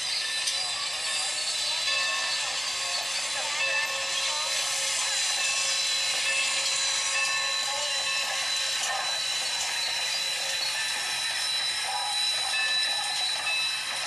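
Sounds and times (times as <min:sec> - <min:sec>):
faint high whine: 0:00.0 - 0:14.0
steam locomotive hissing: 0:00.0 - 0:14.0.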